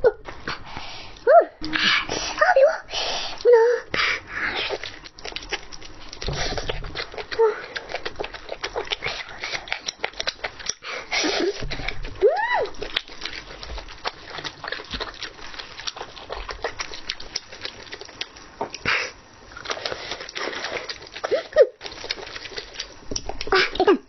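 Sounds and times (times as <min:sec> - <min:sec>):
wet chewing clicks and smacks: 0:04.6 - 0:23.8.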